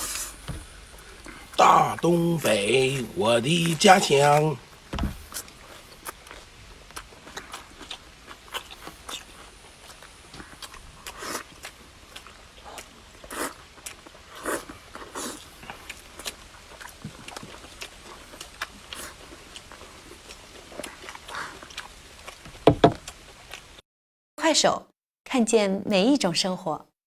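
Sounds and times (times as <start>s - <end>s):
biting and slurping: 0.0s - 4.6s, 5.2s - 23.8s
person chewing noisily: 0.0s - 23.8s.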